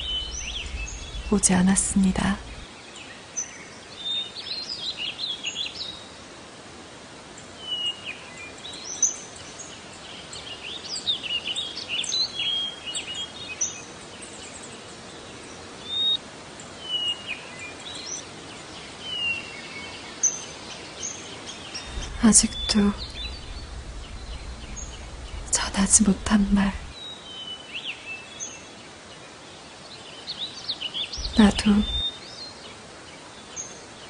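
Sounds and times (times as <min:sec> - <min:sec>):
small birds chirping: 0:00.0 - 0:06.2, 0:07.4 - 0:34.0
background hiss: 0:00.0 - 0:34.0.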